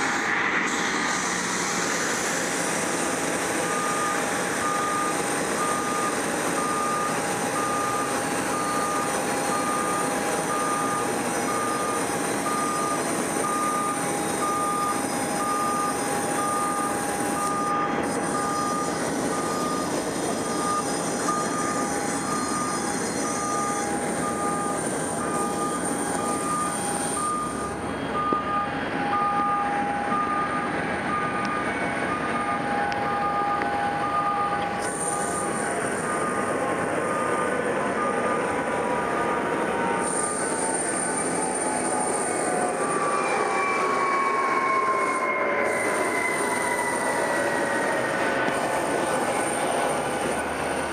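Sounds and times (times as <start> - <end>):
jet engines idling: 0.0 - 50.9
electronic warning beeper: 3.6 - 47.9.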